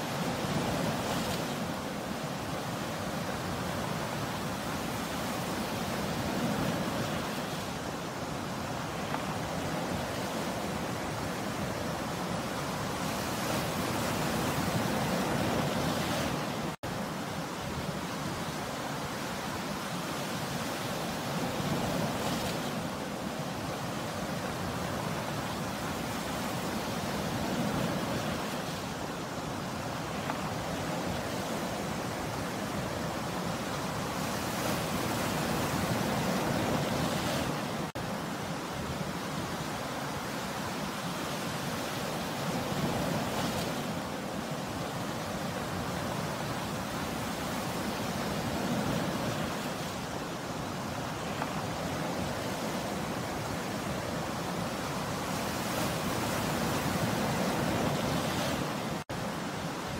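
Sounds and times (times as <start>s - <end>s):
sea surf breaking on shore: 0.0s - 59.9s.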